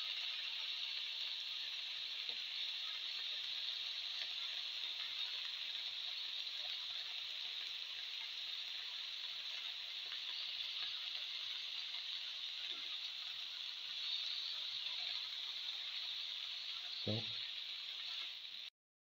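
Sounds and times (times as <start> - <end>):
food sizzling in a pan: 0.0 - 18.7.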